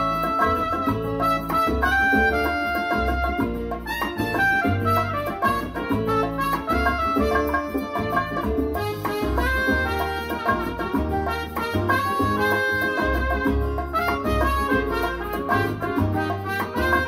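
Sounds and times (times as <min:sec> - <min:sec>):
salsa music with brass and bass: 0:00.0 - 0:17.0.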